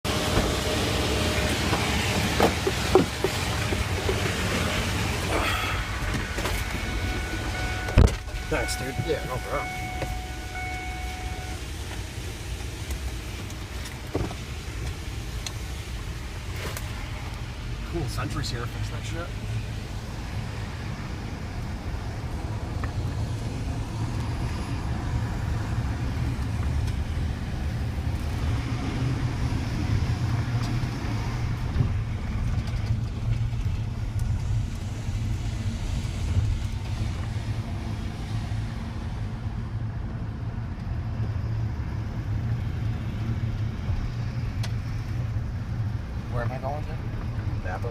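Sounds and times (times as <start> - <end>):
road and tyre noise: 0.0 - 47.9
truck engine droning: 0.0 - 47.9.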